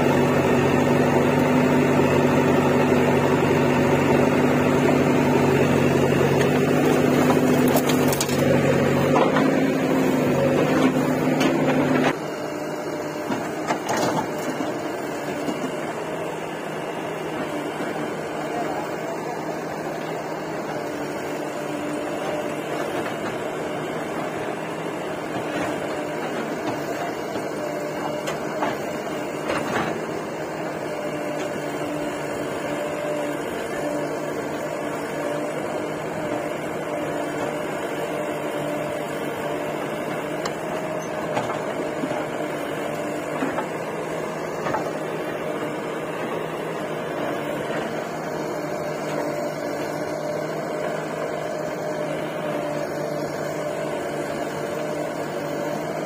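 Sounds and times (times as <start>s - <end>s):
diesel engines idling: 0.0s - 56.0s.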